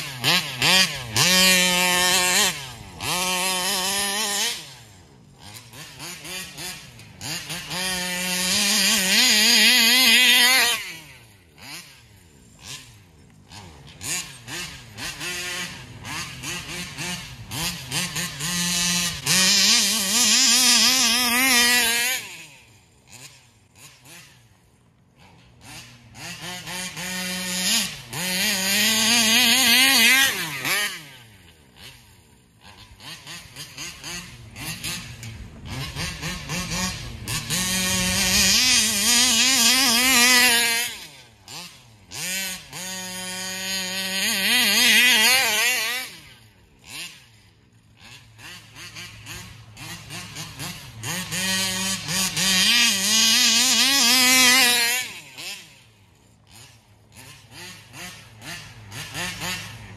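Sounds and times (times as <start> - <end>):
model car engine revving: 0.0 - 59.9.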